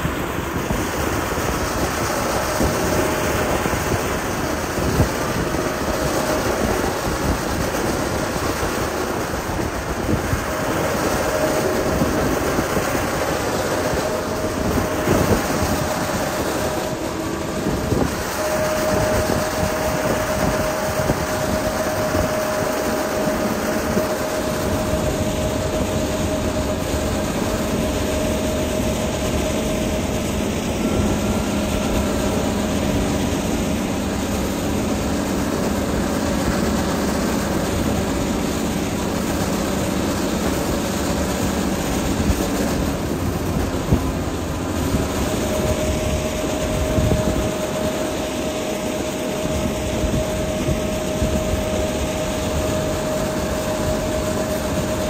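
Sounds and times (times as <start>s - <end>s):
heavy diesel machinery rumbling: 0.0s - 55.0s
steady whine: 0.0s - 55.0s.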